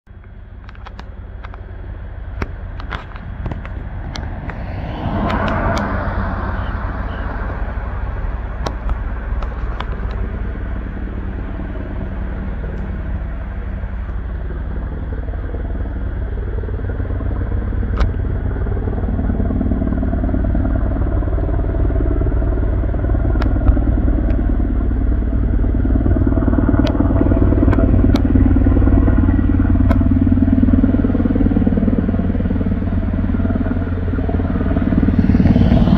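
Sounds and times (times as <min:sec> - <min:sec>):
helicopter rotor beat: 0:00.1 - 0:35.9.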